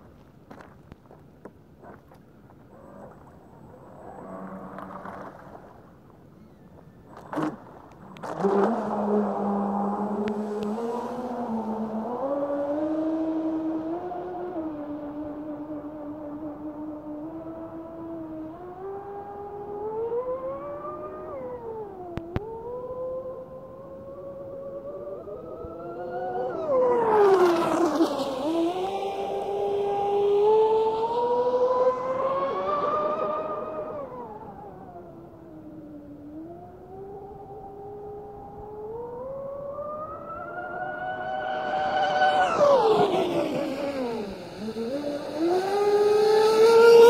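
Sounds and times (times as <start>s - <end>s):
small boat motor whine: 2.7s - 47.0s.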